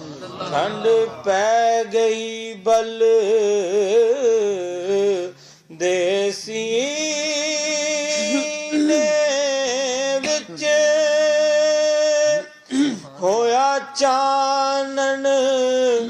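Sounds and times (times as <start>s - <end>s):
man singing: 0.4s - 16.0s.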